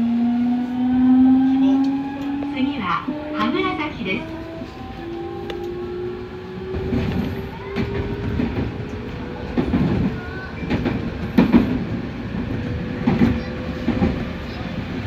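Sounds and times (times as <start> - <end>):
traction motors whining: 0.6 - 15.0
wheels clunking over rail joints: 1.7 - 15.0.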